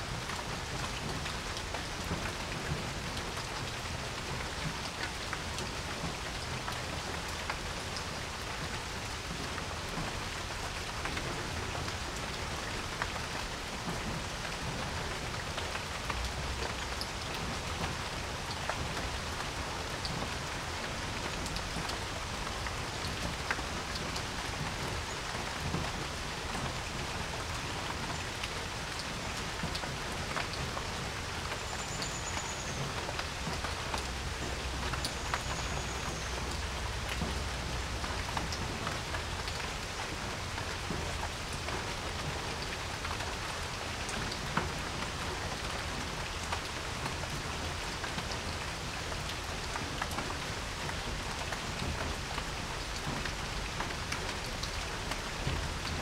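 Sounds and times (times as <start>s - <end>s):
rain falling on a porch: 0.0s - 56.0s.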